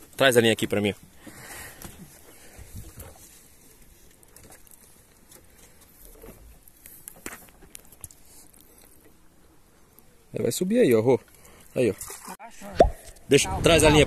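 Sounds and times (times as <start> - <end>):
quiet water: 0.0 - 13.6.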